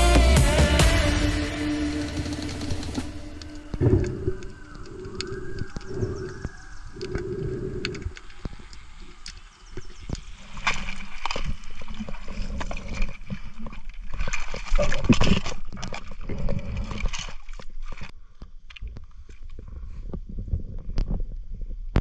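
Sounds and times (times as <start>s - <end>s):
water sloshing and splashing: 2.5s - 20.2s.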